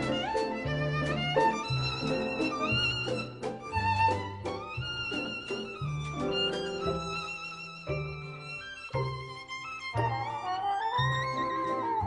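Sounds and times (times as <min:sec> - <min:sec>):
orchestral waltz violin melody: 0:00.0 - 0:12.0.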